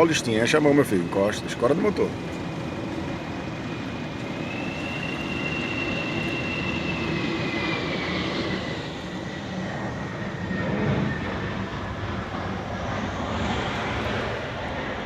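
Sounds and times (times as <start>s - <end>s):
airliner engines passing: 0.0s - 15.0s
gusty wind: 0.0s - 15.0s.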